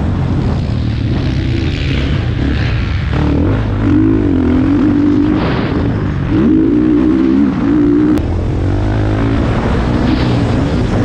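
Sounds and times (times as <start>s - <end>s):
steady rush of noise: 0.0s - 11.0s
motocross bike engine revving: 0.1s - 11.0s.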